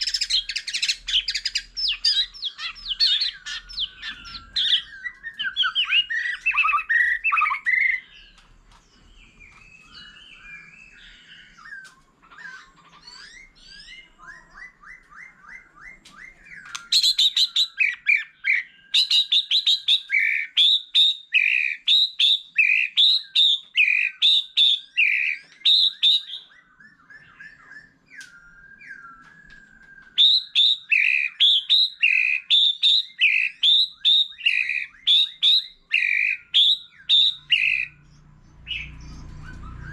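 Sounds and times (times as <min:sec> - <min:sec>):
bird singing whistled phrases: 0:00.0 - 0:08.4, 0:09.1 - 0:39.9.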